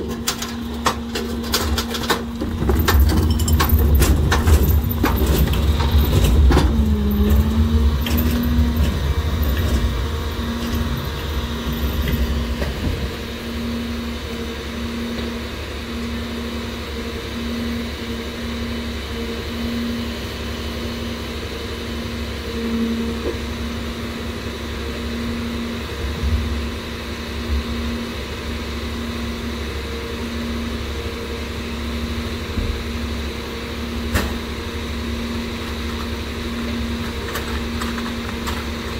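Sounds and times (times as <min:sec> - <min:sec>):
garbage truck engine idling: 0:00.0 - 0:38.9.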